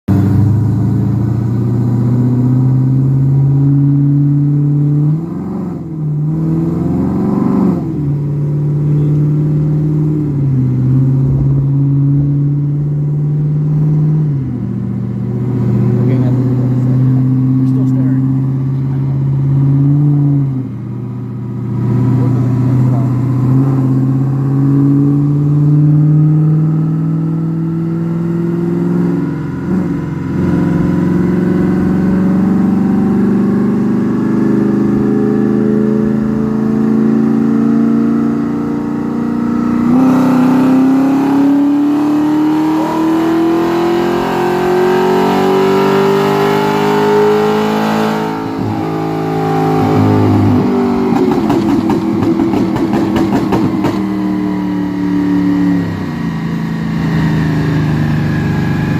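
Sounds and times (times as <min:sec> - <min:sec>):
car engine under load: 0:00.1 - 0:58.9.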